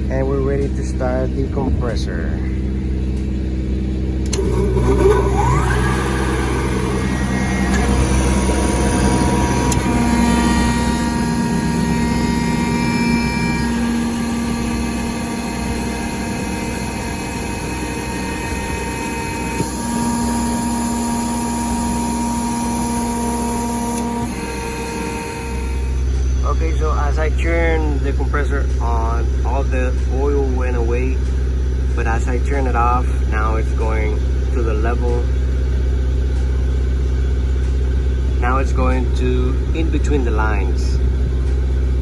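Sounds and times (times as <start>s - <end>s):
air compressor whining and humming: 0.0s - 42.0s
generator engine running: 0.0s - 42.0s.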